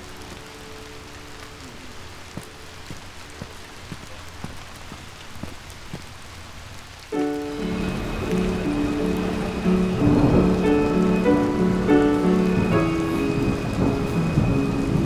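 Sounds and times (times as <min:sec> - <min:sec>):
rain falling: 0:00.0 - 0:15.0
raindrops ticking: 0:00.0 - 0:15.0.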